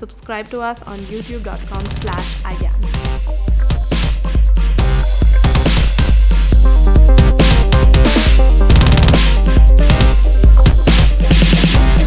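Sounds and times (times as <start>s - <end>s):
electronic music with heavy bass: 0.9s - 12.0s.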